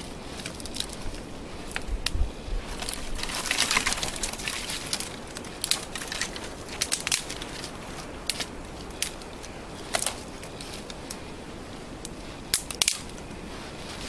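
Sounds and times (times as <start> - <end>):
dry twigs rustling and snapping: 0.0 - 14.0.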